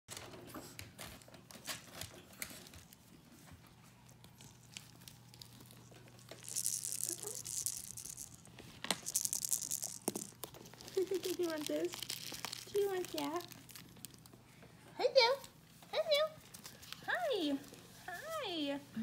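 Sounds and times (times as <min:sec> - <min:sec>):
dog toys crinkling: 0:01.0 - 0:14.5, 0:15.1 - 0:18.7.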